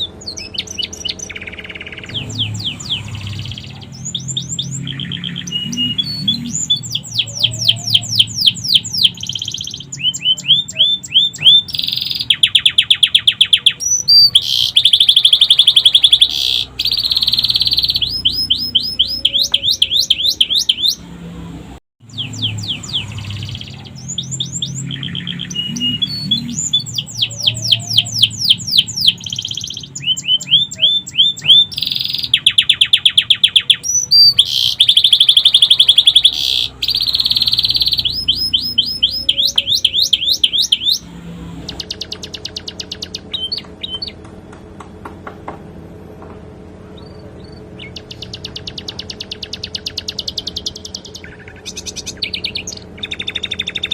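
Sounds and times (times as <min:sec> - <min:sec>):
canary singing fast trills: 0:00.0 - 0:44.3, 0:47.0 - 0:53.9.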